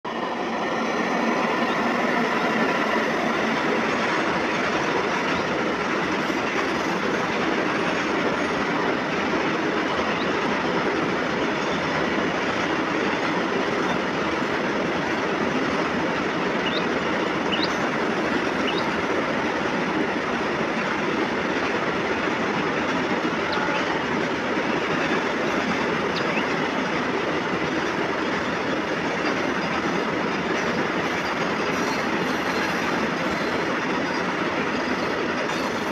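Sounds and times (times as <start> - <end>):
train wheels on rails: 0.0 - 35.9.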